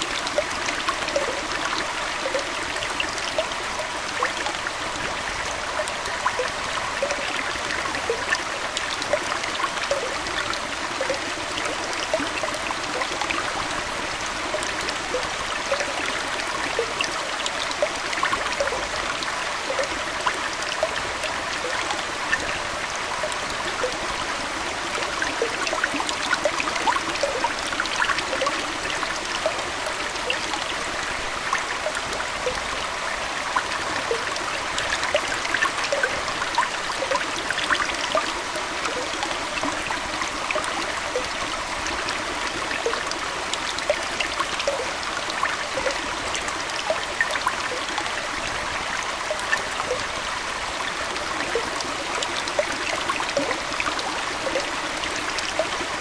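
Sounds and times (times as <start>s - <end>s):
aquarium water trickling: 0.0s - 56.0s
bubbling dripping plinks: 0.0s - 56.0s.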